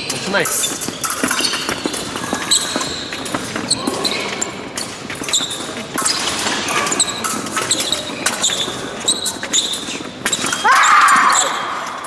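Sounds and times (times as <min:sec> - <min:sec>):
shoe soles squeaking: 0:00.0 - 0:12.0.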